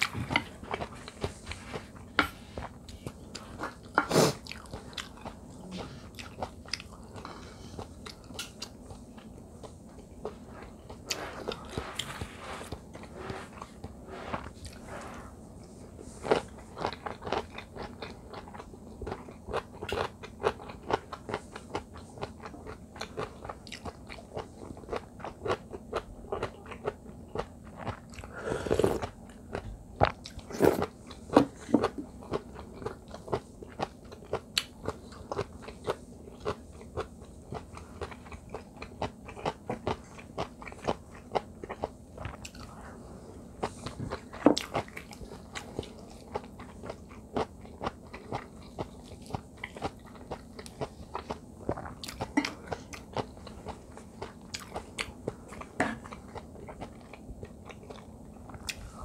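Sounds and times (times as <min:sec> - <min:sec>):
chewing with wet crunches: 0:06.1 - 0:12.2, 0:16.2 - 0:42.8, 0:43.4 - 0:59.0.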